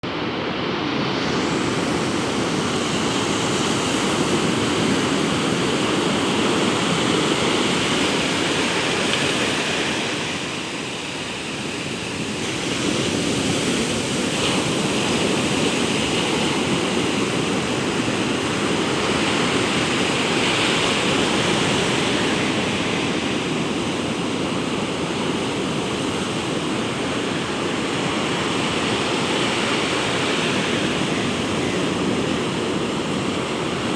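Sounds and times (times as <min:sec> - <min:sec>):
ocean surf breaking on beach: 0:00.0 - 0:33.9.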